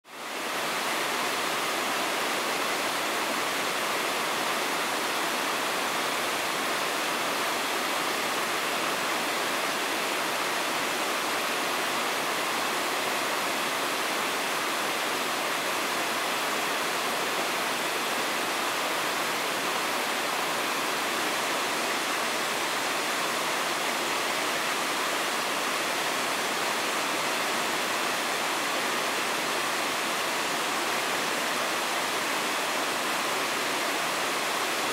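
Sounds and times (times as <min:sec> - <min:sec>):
mountain river rushing: 0:00.1 - 0:34.9.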